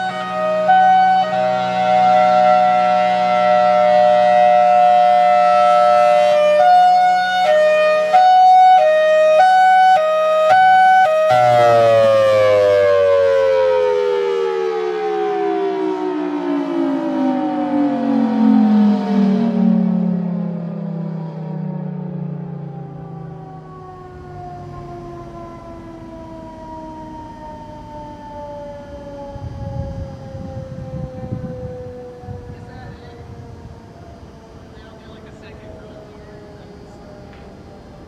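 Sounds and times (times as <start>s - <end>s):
outdoor warning siren: 0.0s - 38.0s.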